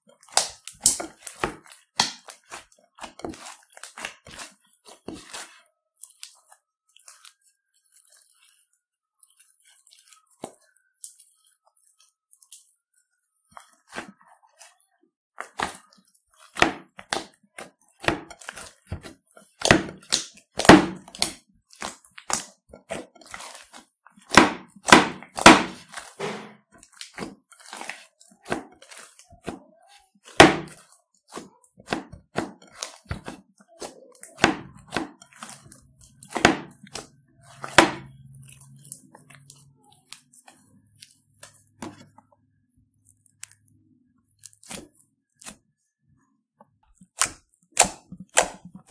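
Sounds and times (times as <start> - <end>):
slime squelching and popping: 0.0 - 45.8, 46.7 - 48.9.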